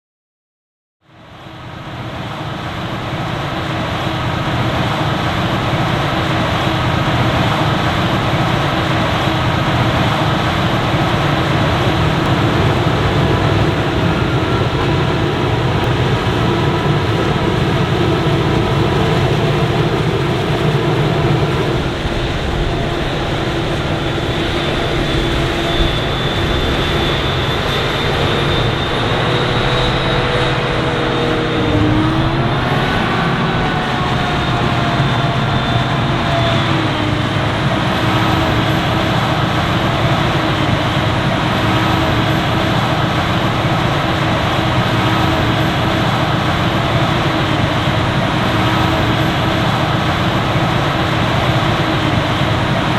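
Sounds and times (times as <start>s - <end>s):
diesel farm machinery running: 1.2s - 52.9s.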